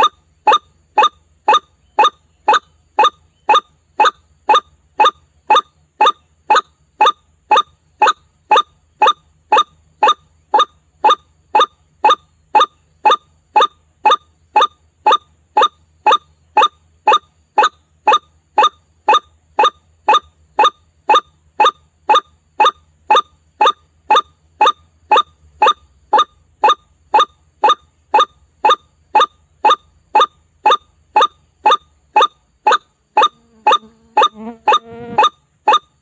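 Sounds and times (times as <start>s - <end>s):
waterhen calling: 0.0s - 35.8s.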